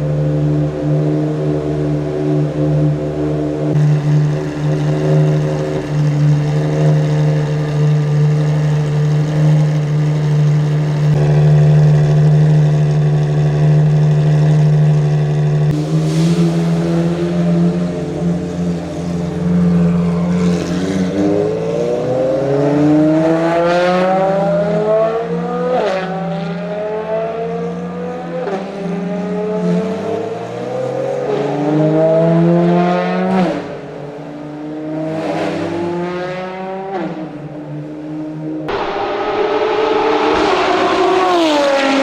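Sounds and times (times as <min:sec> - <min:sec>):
sports car engine accelerating: 0:00.0 - 0:42.0.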